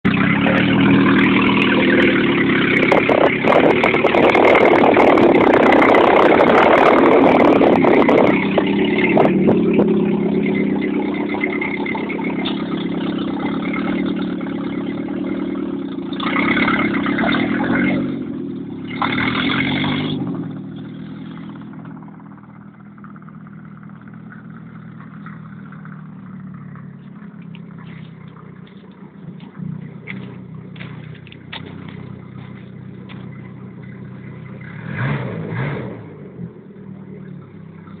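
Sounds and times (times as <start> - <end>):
loud raw car engine revving: 0.0 - 38.0.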